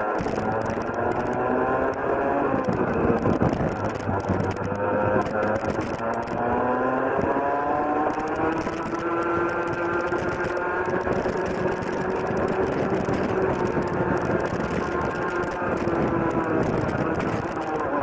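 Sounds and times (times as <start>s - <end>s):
kart engine at full throttle: 0.0s - 18.0s
wind noise: 0.0s - 18.0s.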